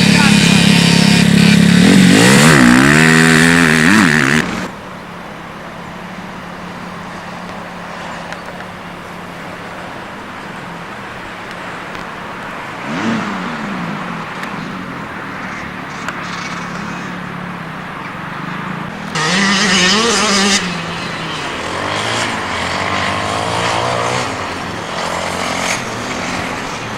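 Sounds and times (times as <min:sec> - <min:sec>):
motocross bike engines revving: 0:00.0 - 0:26.9
motorbike passing close: 0:00.0 - 0:26.9.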